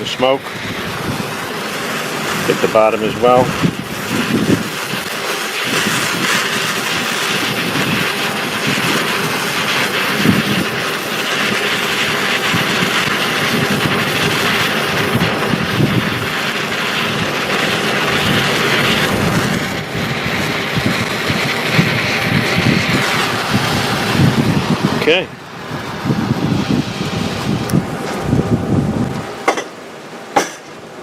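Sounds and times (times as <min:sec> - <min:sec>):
wind gusting on microphone: 0:00.0 - 0:30.2
steady rushing noise: 0:00.0 - 0:31.0.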